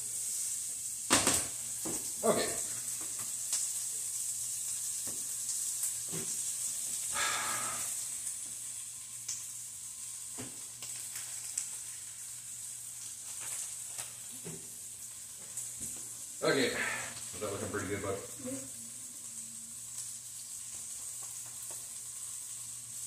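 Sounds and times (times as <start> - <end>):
steak sizzling in a skillet: 0.0 - 23.0.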